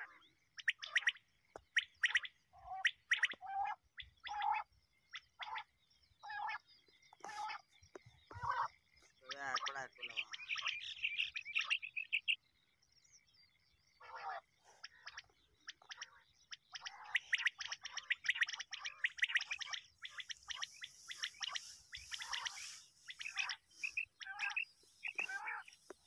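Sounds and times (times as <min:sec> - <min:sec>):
quail chirping calls: 0:00.0 - 0:12.4, 0:13.9 - 0:26.0.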